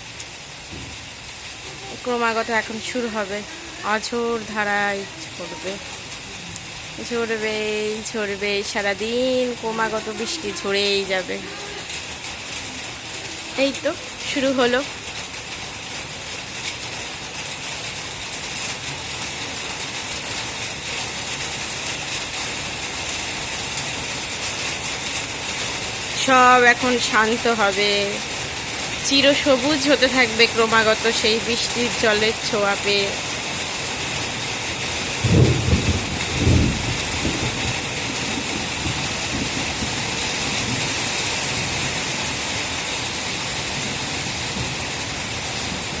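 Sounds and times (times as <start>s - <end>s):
rain pouring: 0.0s - 46.0s.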